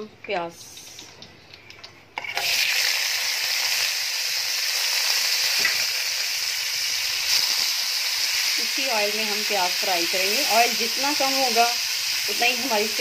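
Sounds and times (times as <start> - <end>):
onions sizzling in hot oil: 2.2 - 13.0.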